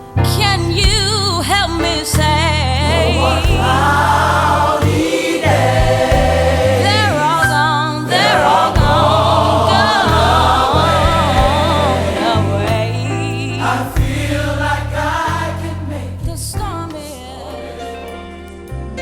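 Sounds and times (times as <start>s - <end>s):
steady bass: 0.0s - 19.0s
gospel choir singing: 0.8s - 19.0s.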